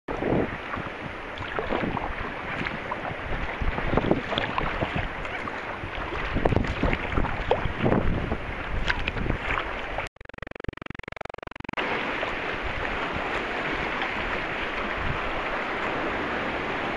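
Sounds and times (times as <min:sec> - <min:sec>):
paddle splashing water: 0:00.1 - 0:10.1, 0:11.8 - 0:16.9
wind rumbling on microphone: 0:00.1 - 0:10.1, 0:11.8 - 0:16.9
water lapping around hull: 0:00.1 - 0:10.2, 0:11.7 - 0:16.9.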